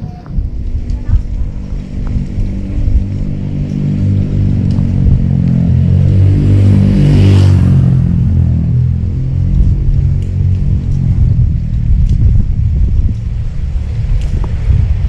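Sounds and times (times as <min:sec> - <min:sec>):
vehicle engine passing: 0:00.4 - 0:15.0.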